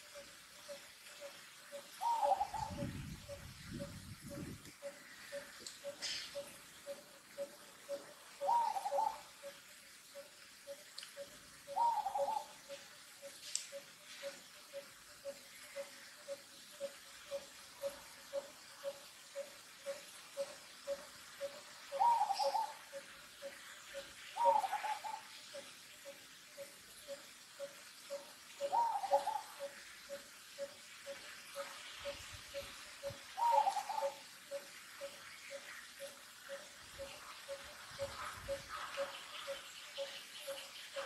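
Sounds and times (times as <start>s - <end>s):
louder longer bird calls: 0.0s - 41.0s.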